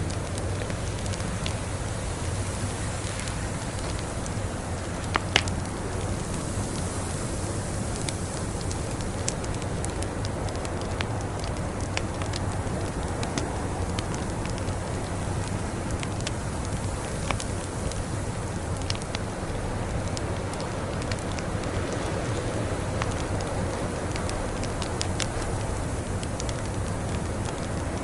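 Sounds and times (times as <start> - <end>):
snowstorm hiss: 0.0 - 28.0
wood fire crackling: 0.0 - 28.0.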